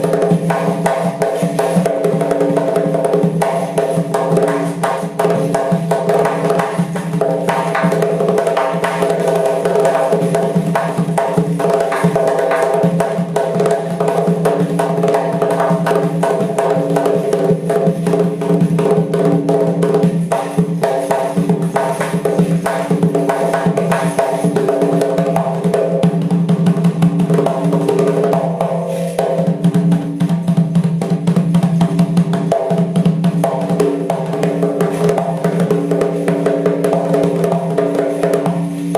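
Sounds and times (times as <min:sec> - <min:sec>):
frame drum fast rhythm: 0:00.0 - 0:38.9.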